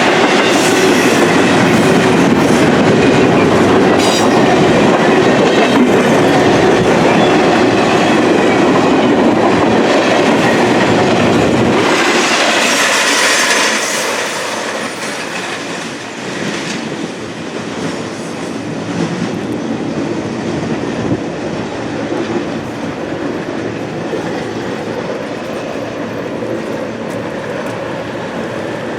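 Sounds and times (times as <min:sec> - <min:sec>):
freight train wheels on rails: 0:00.0 - 0:28.9.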